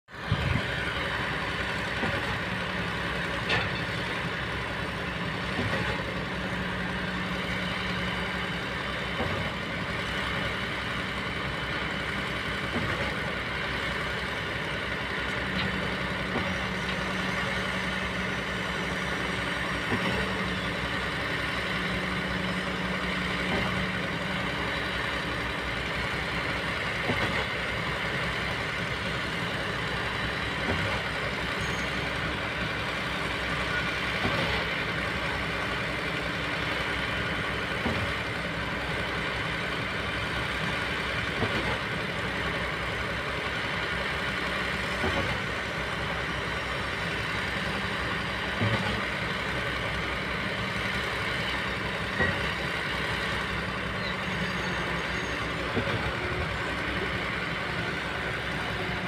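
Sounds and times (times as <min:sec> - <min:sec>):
excavator diesel engines running: 0:00.1 - 0:59.0.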